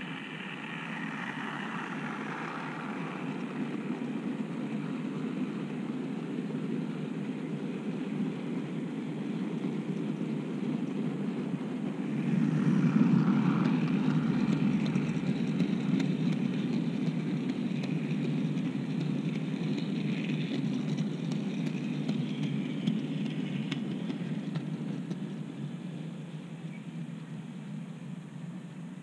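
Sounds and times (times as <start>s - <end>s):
light clicks of wheels: 0.0s - 28.6s
model train wheels rumbling on rails: 0.0s - 29.0s.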